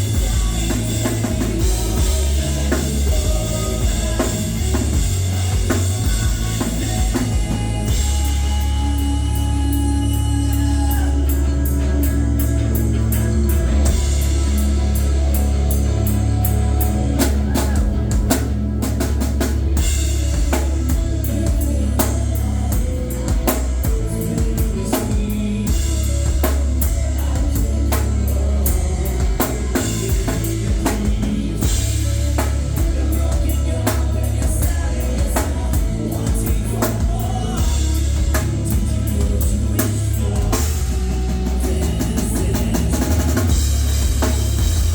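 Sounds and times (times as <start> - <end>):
heavy sustained bass: 0.0 - 44.9
live rock band playing: 0.0 - 44.9.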